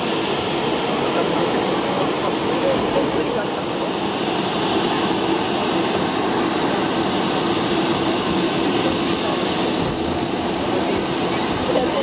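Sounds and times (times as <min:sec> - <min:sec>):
jet engine rushing: 0:00.0 - 0:12.0.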